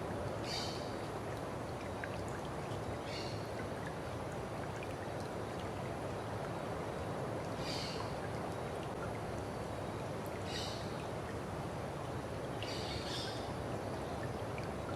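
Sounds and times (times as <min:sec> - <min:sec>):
stream flowing: 0:00.0 - 0:14.9.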